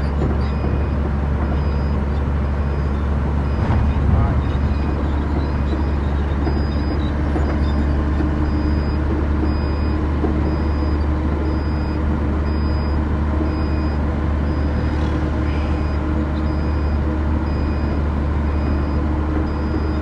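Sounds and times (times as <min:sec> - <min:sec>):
diesel truck engine droning: 0:00.0 - 0:20.0
road noise: 0:00.0 - 0:20.0.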